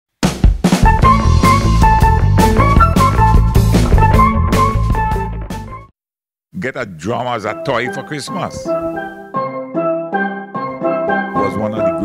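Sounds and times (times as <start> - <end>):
instrumental music with steady beat: 0.2 - 5.9, 7.6 - 12.0.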